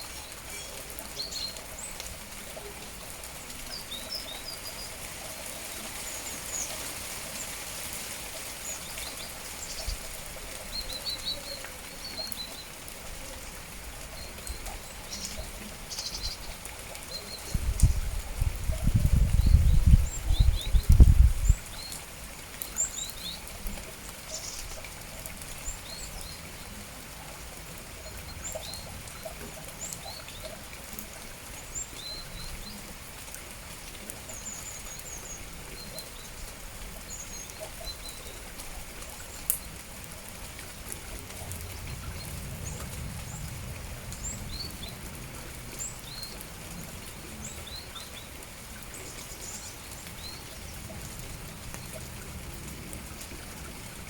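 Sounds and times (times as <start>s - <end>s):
rain falling: 0.0s - 54.0s
songbirds chirping: 0.0s - 54.0s.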